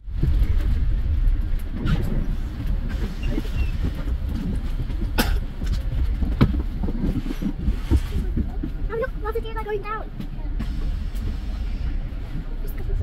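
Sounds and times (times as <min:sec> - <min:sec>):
bus engine and road rumble: 0:00.0 - 0:13.0
knocks and rattles inside bus: 0:00.0 - 0:13.0.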